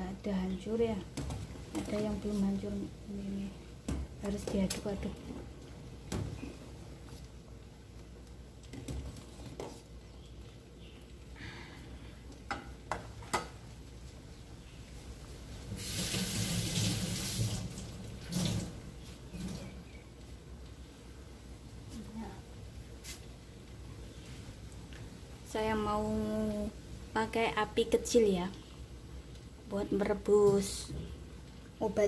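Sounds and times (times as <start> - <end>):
pot boiling: 0.0 - 32.0.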